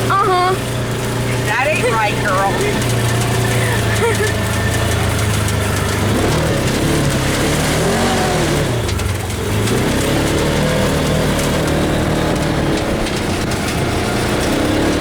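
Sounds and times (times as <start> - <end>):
side-by-side engine running: 0.0 - 15.0.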